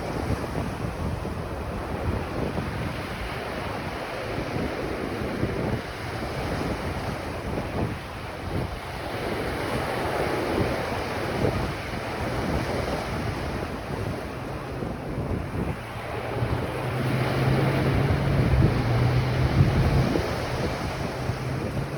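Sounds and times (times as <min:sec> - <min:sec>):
ocean surf washing onto beach: 0:00.0 - 0:21.9
wind buffeting microphone: 0:00.0 - 0:21.9.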